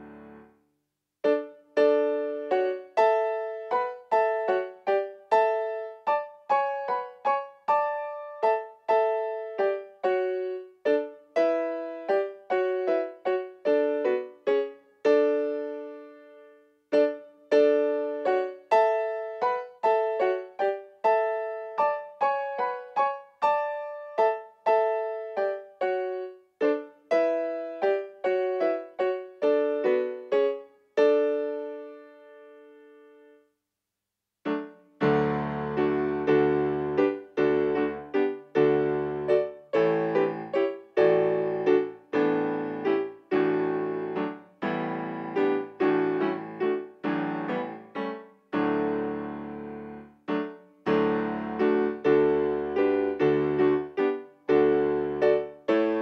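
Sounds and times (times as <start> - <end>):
digital piano playing a hymn: 0.0 - 0.5, 1.3 - 33.4, 34.5 - 56.0.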